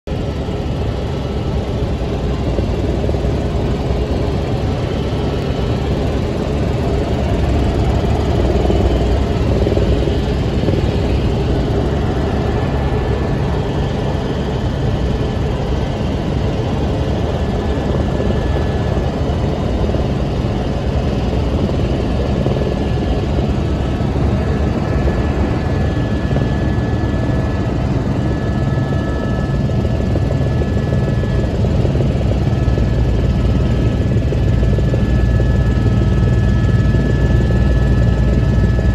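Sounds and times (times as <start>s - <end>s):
helicopter engine and rotor drone: 0.1s - 38.9s.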